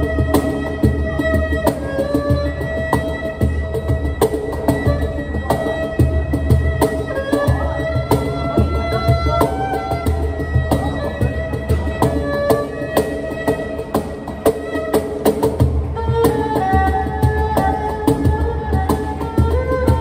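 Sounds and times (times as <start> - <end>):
erhu melody: 0.0 - 20.0.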